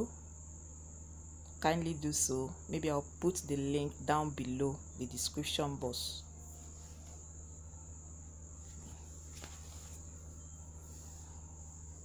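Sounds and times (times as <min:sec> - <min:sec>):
low hum: 0:00.0 - 0:12.0
high-pitched whine: 0:01.7 - 0:12.0.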